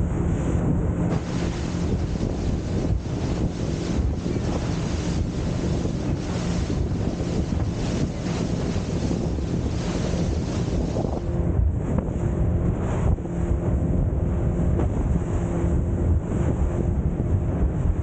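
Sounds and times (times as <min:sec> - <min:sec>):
water rushing past hull: 0:00.0 - 0:17.9
low engine hum: 0:00.0 - 0:18.0
wind buffeting microphone: 0:00.0 - 0:18.0.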